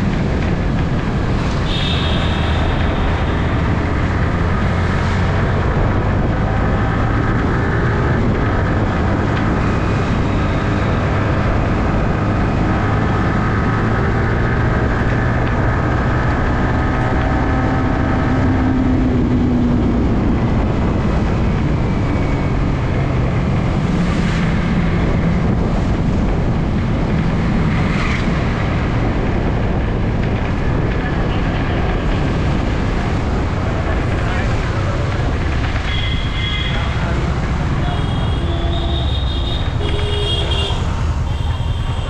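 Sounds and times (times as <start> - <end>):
road noise: 0.0 - 42.0
wind noise: 0.0 - 42.0.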